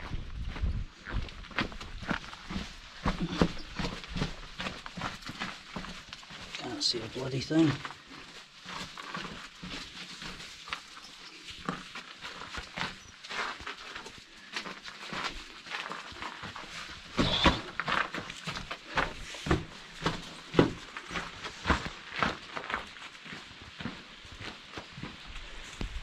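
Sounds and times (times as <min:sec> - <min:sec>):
footsteps crunching on gravel: 0:00.0 - 0:26.0.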